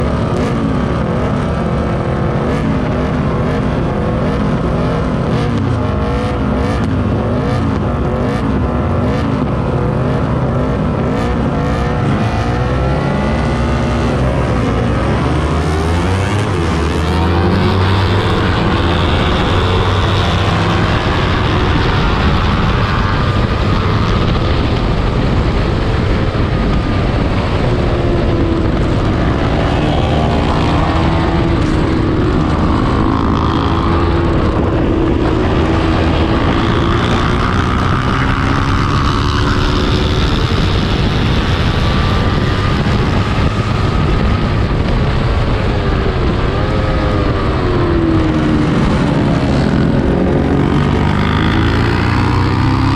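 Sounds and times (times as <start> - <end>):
race motorcycle engine revving: 0.0 - 52.9.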